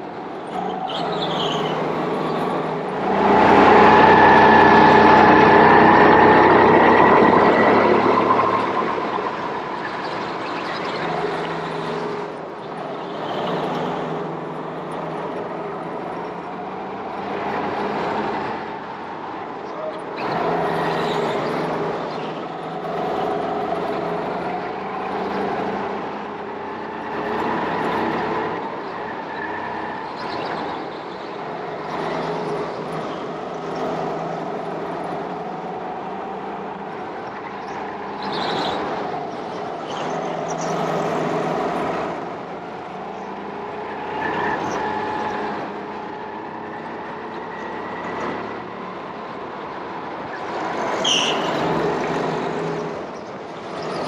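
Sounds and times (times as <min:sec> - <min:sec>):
go-kart motor running: 0:00.0 - 0:54.0.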